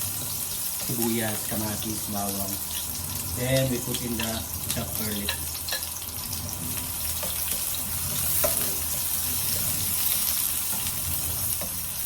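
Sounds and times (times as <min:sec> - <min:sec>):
onions sizzling in oil: 0:00.0 - 0:12.0
small crackles of frying: 0:00.0 - 0:12.0.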